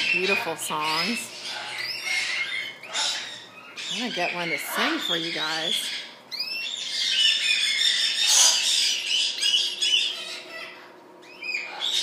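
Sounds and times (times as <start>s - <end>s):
parrots and canaries calling: 0.0s - 12.0s.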